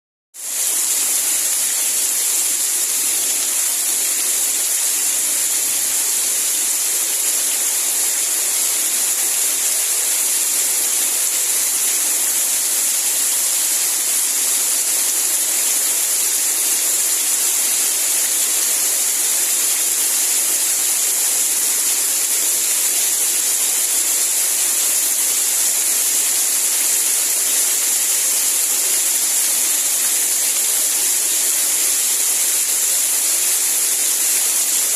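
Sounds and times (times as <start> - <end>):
steady rain hiss: 0.4 - 34.9.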